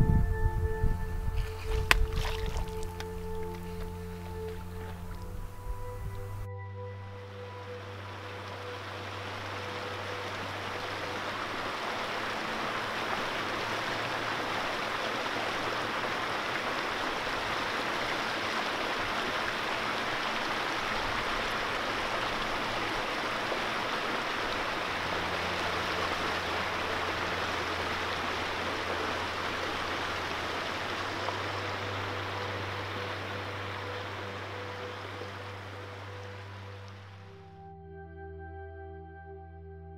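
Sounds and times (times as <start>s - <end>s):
low steady hum: 0.0s - 39.9s
mountain stream flowing: 1.4s - 6.3s, 7.2s - 37.5s.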